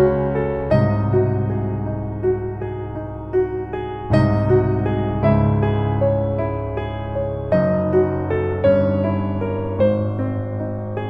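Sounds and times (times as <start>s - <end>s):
slow melodic background music: 0.0s - 11.0s.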